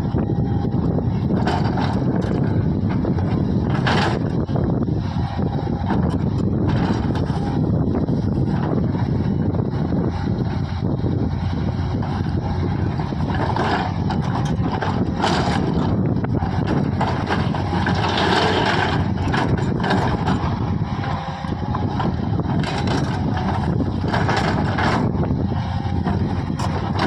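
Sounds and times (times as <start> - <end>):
backhoe diesel engine running: 0.0 - 27.0.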